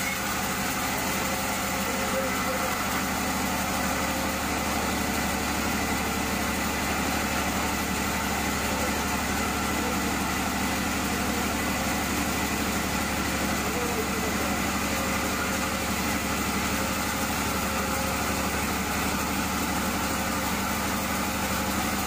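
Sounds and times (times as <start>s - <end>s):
sawmill machinery hum: 0.0s - 22.0s.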